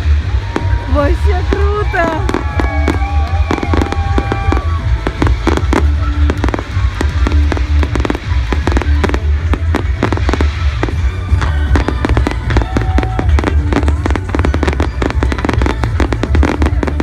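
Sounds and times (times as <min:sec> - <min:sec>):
fireworks bangs and crackles: 0:00.0 - 0:17.0
heavy low rumble: 0:00.0 - 0:17.0
music playing: 0:00.0 - 0:17.0.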